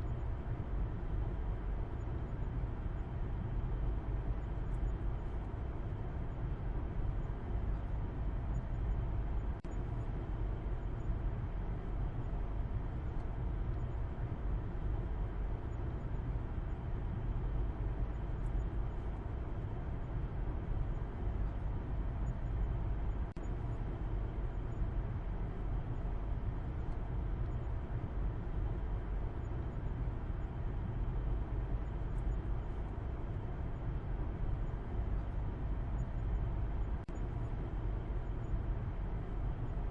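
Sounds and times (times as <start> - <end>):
faint engine hum: 0.0 - 39.9.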